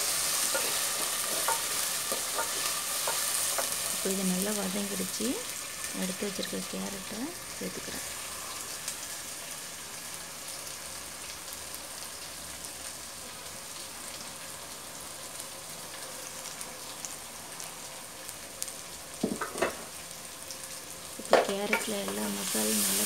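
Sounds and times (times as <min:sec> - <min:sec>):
masala sizzling in hot oil: 0:00.0 - 0:23.0.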